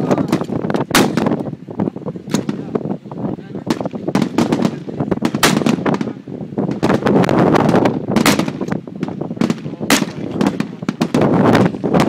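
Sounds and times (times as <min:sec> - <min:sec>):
gunshots with heavy echo: 0:00.0 - 0:01.4, 0:02.3 - 0:02.8, 0:03.7 - 0:12.0.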